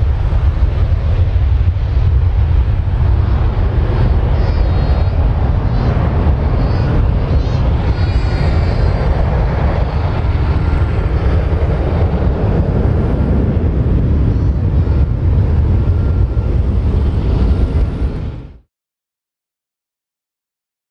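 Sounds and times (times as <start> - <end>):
jet engines low rumble: 0.0 - 18.7.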